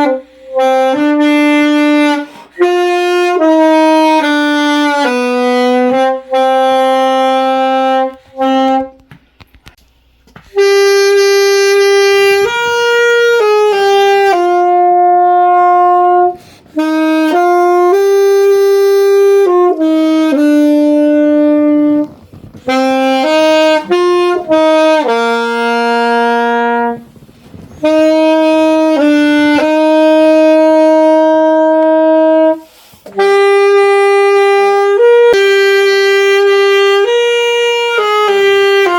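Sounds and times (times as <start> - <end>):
wind instrument slow melody: 0.0 - 9.0, 10.5 - 38.9.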